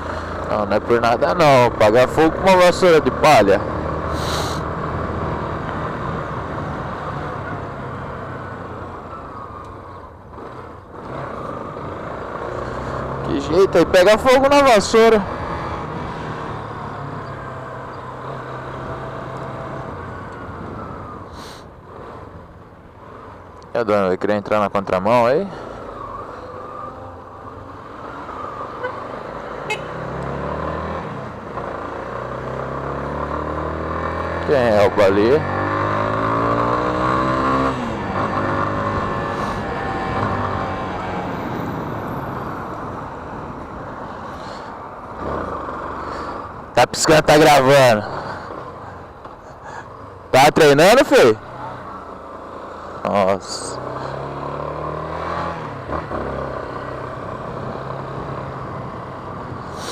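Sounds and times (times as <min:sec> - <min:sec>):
motorcycle engine accelerating: 0:00.0 - 0:23.4, 0:25.5 - 0:46.8, 0:50.6 - 0:59.9
wind and road rush: 0:00.0 - 0:59.9.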